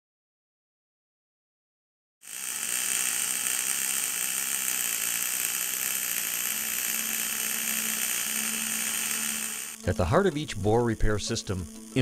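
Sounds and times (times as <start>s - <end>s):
welding arc hissing: 2.2s - 12.0s.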